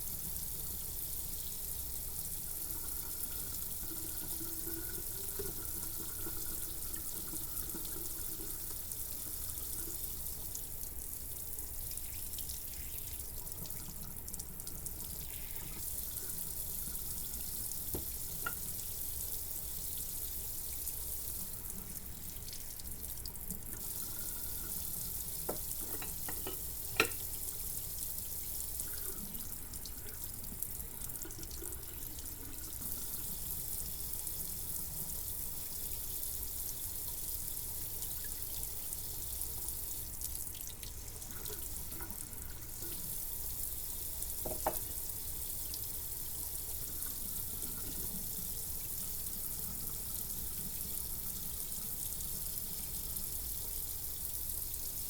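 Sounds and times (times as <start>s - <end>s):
water running: 0.0s - 55.0s.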